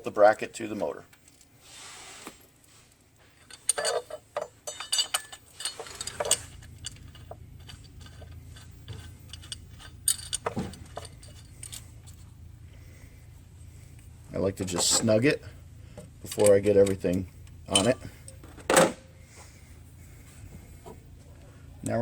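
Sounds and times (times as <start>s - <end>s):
faint low hum: 2.4s - 22.0s.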